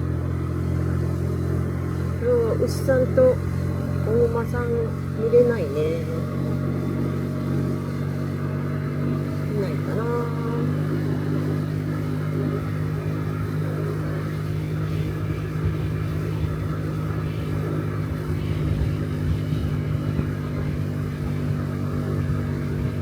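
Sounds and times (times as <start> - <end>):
scooter engine humming: 0.0 - 23.0.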